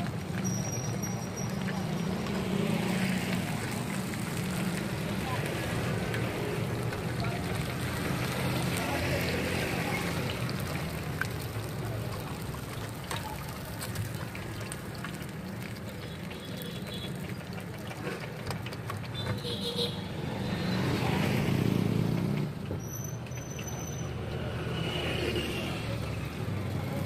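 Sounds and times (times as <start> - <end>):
street traffic: 0.0 - 27.0.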